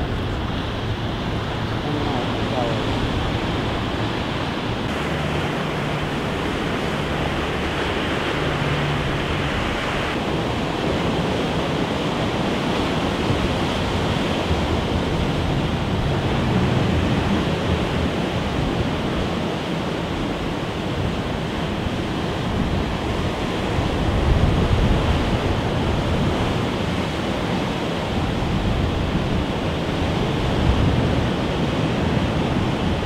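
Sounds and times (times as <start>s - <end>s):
waves breaking on rocks: 0.0s - 33.0s
wind: 0.0s - 33.0s.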